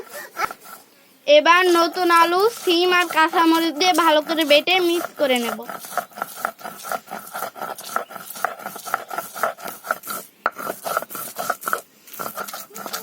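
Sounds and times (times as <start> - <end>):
stone grinding by hand: 0.0 - 13.0.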